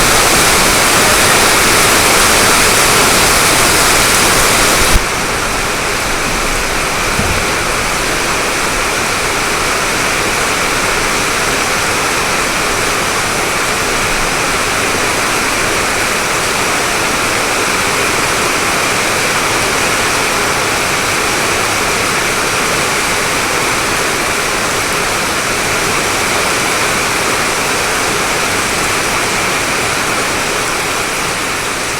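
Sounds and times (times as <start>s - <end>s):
heavy rain on a tin roof: 0.0s - 31.9s.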